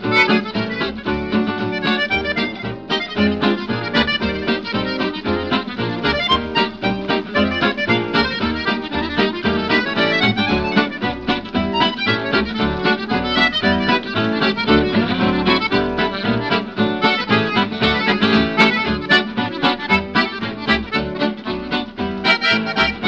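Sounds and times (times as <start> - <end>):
instrumental music with quick beat: 0.0 - 23.0.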